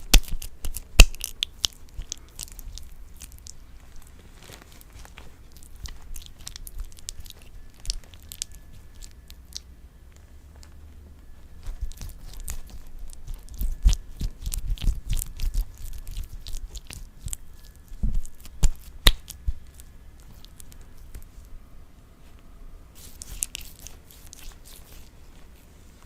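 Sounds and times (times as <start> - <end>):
person chewing and crunching: 0.0 - 9.7, 11.6 - 21.1, 23.0 - 25.2.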